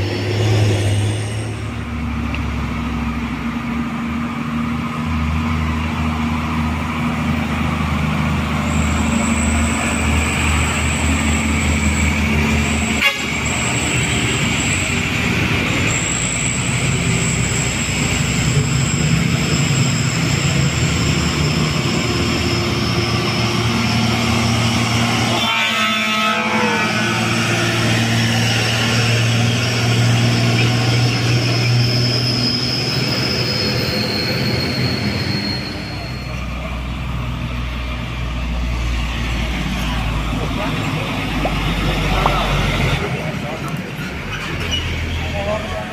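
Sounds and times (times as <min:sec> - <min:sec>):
heavy truck diesel engines labouring: 0:00.0 - 0:45.9.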